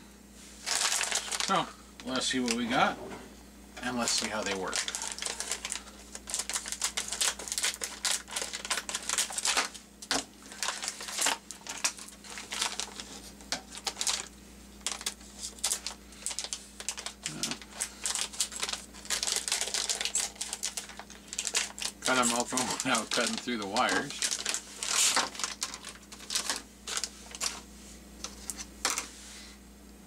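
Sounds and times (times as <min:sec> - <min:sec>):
plastic bags crinkling: 0:00.6 - 0:02.7, 0:03.8 - 0:29.1.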